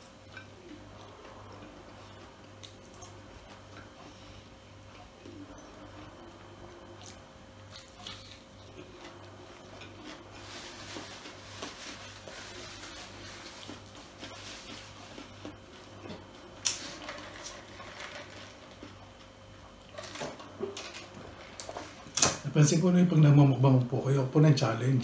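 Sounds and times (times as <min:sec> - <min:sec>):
man chewing: 0:00.0 - 0:20.0.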